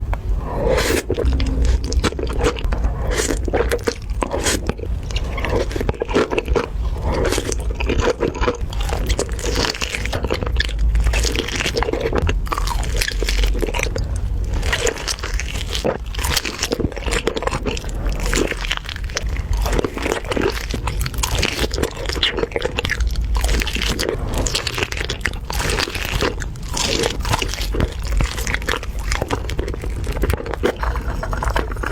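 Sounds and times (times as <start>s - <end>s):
crunchy chewing: 0.0s - 31.9s.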